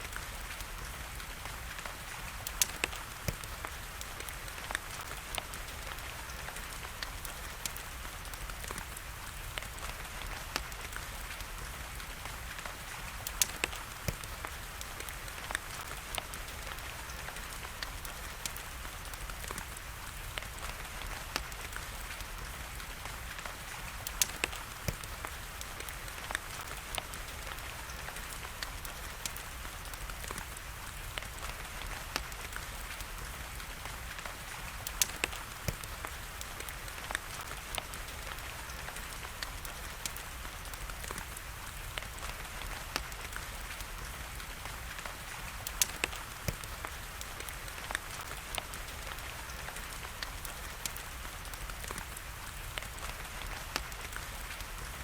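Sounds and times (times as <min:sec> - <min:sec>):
steady rain hiss: 0:00.0 - 0:55.0
wood fire crackling: 0:00.0 - 0:55.0.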